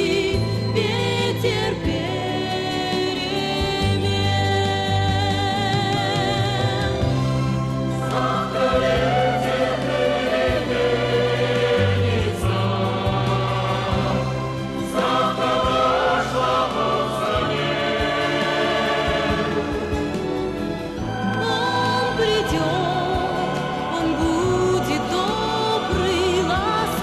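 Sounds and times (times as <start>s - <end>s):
choir singing wordless chords: 0.0s - 4.5s, 5.7s - 27.0s
steady bass line: 3.8s - 27.0s.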